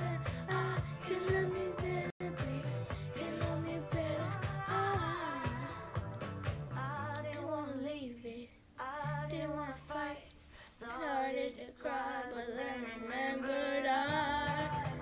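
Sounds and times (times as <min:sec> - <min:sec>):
girl singing: 0:00.0 - 0:06.0, 0:06.7 - 0:15.0
pop song from smart speaker: 0:00.0 - 0:15.0.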